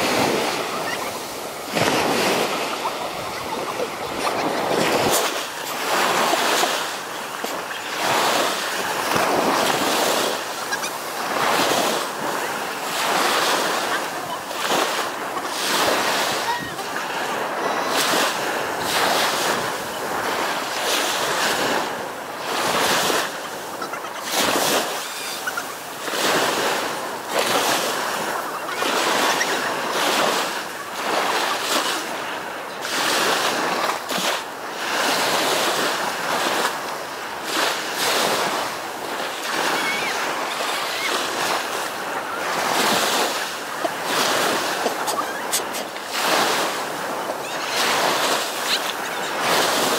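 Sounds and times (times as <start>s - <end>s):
small waves washing on beach: 0.0s - 49.9s.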